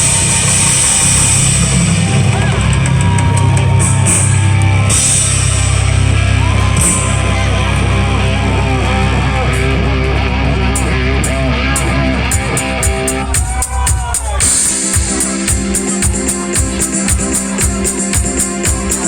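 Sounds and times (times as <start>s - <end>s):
drums steady beat: 0.0s - 19.0s
live rock band playing: 0.0s - 19.0s.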